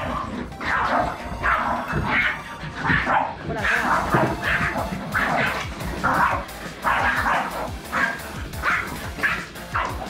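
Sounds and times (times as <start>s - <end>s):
background music: 0.0s - 10.0s
small dogs barking: 0.0s - 10.0s.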